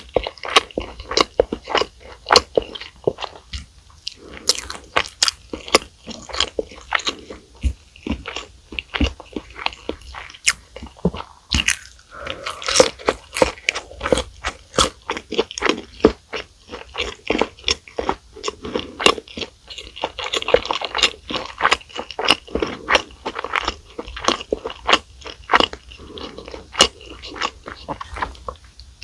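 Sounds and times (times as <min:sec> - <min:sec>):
crunching and chewing food: 0:00.0 - 0:29.0.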